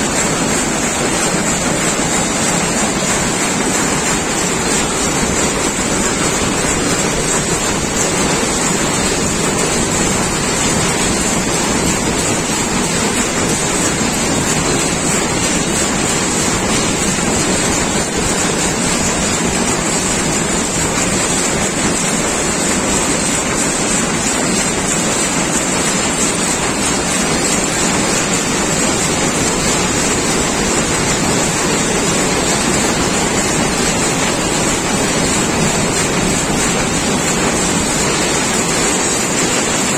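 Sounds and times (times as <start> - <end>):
weaving loom clattering: 0.0 - 39.9.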